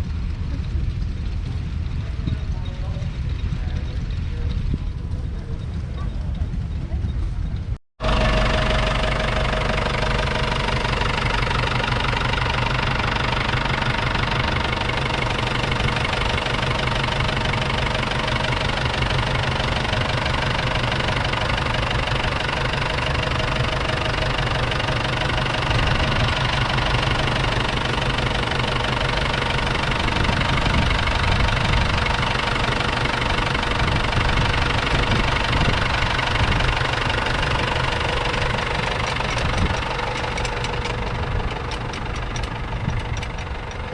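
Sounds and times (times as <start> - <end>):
tractor diesel engine clattering: 0.0 - 43.9.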